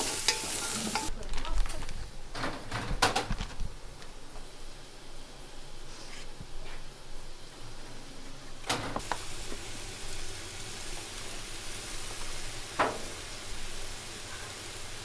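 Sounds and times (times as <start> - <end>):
steady kitchen hiss: 0.0 - 15.0.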